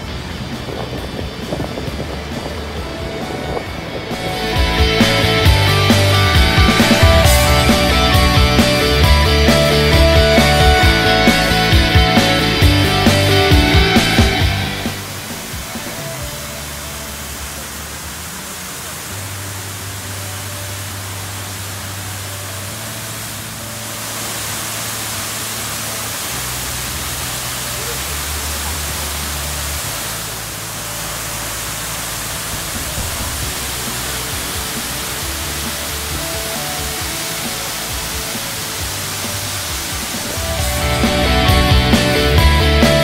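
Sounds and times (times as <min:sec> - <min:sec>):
background music with low notes: 0:00.0 - 0:43.0
fountain water splashing: 0:00.0 - 0:43.0.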